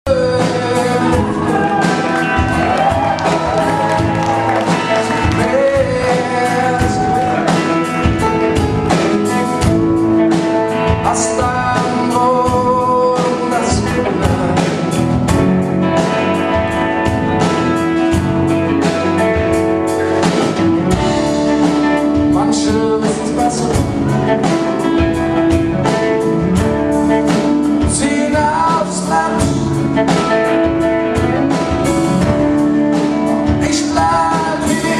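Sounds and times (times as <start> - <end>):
man singing: 0.0 - 16.2, 21.1 - 31.5, 32.1 - 34.9
acoustic guitars: 0.1 - 34.9
steady drum beat: 0.1 - 34.9.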